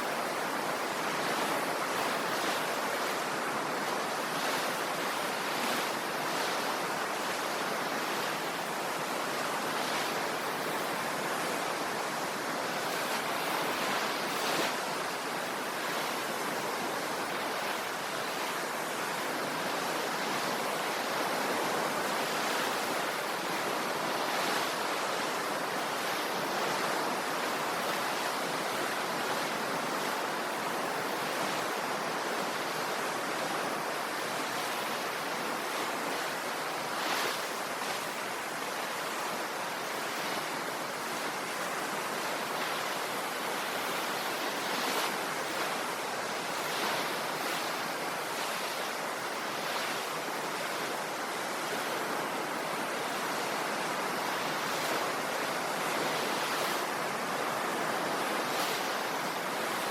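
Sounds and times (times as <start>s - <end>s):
ocean waves rushing: 0.0s - 59.9s.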